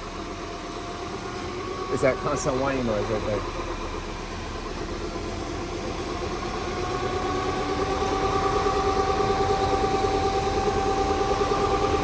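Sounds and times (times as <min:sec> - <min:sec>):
differential whining: 0:00.0 - 0:12.0.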